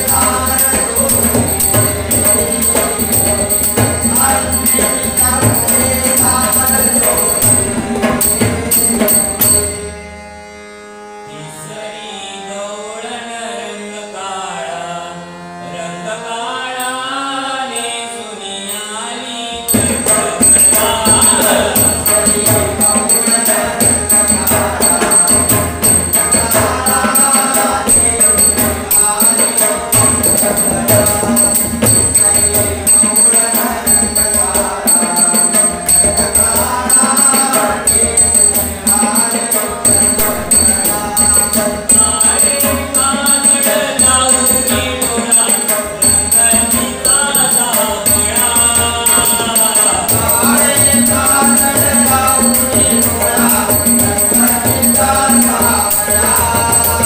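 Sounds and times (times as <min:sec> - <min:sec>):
person singing: 0:00.0 - 0:09.4, 0:11.3 - 0:57.0
hand cymbals: 0:00.0 - 0:09.9, 0:19.7 - 0:57.0
harmonium melody: 0:00.0 - 0:57.0.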